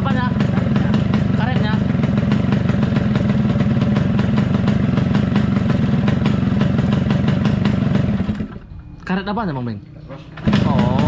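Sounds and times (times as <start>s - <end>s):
motorcycle engine idling: 0.0s - 8.8s, 10.3s - 11.0s.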